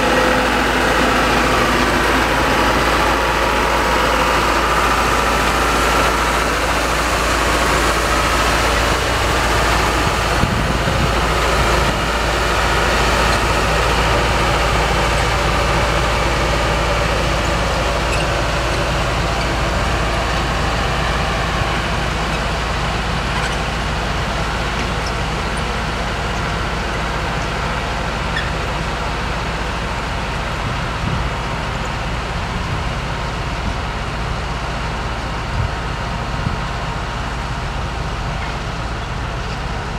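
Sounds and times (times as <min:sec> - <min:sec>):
rail machine engines running: 0:00.0 - 0:39.9.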